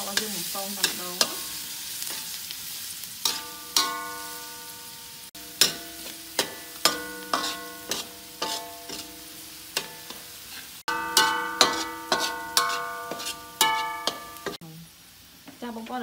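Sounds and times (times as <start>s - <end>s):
metal spatula scraping a wok: 0.0s - 14.6s
food sizzling in oil: 0.0s - 16.0s.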